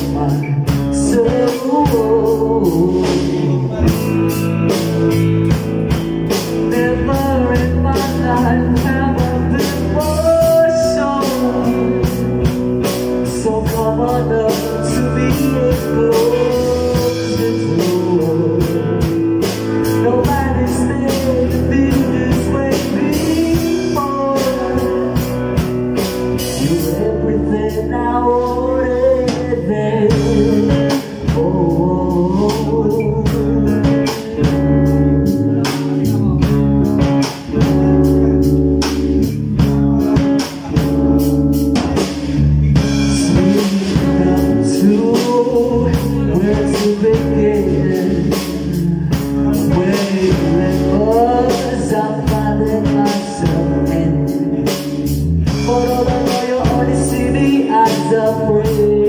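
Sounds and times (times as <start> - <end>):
drum kit: 0.0 - 59.0
electric bass guitar: 0.0 - 59.0
electric guitar: 0.0 - 59.0
man singing: 0.0 - 59.0.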